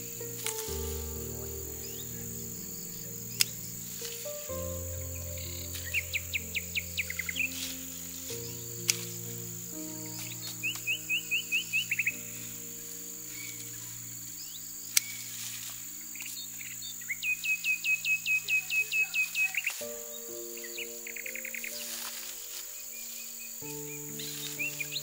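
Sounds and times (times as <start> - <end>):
bird trill: 0.0 - 25.0
small birds chirping: 0.0 - 25.0
soft background music: 0.0 - 25.0.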